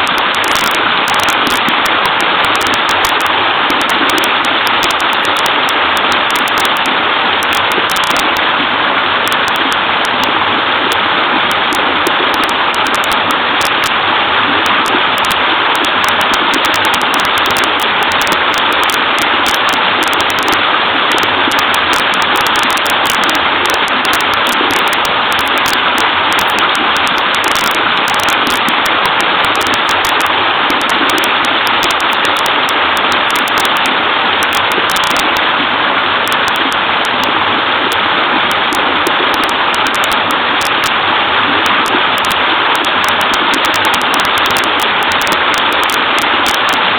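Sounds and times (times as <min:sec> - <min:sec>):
small waterfall splashing: 0:00.0 - 0:46.9.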